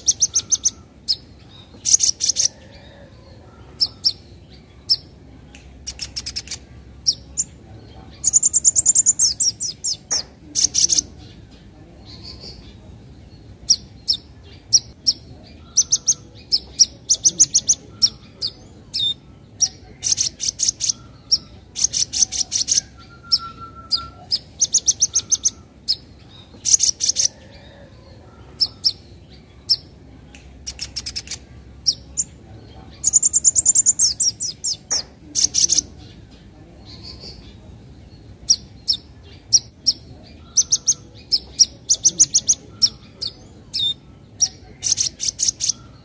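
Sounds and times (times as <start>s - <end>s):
sunbird chipping and chattering: 0.0s - 2.9s, 3.7s - 27.4s, 28.5s - 46.0s.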